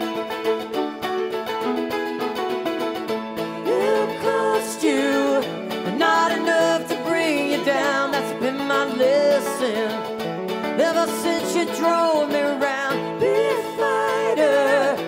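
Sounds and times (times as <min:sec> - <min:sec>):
strummed mandolin: 0:00.0 - 0:15.0.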